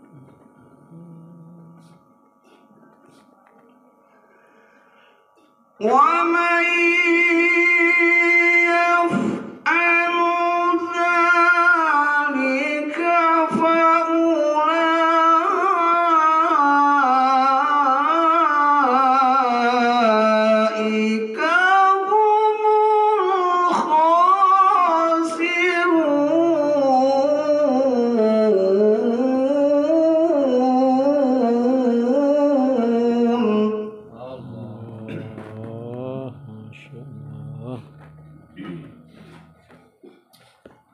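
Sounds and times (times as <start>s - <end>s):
man chanting melodically: 5.8s - 39.9s.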